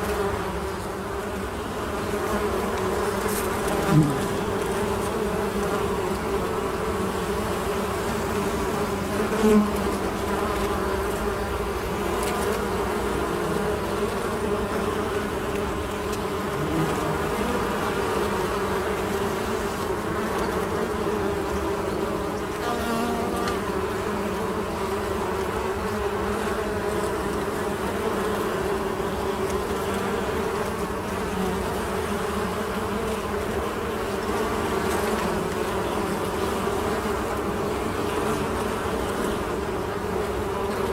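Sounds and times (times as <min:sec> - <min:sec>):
honey bees buzzing: 0:00.0 - 0:40.9.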